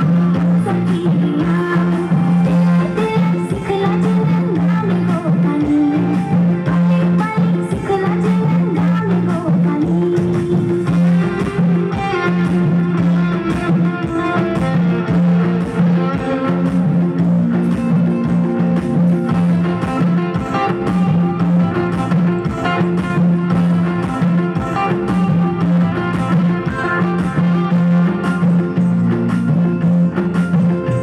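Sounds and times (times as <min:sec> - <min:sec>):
amplified dance music: 0:00.0 - 0:31.0.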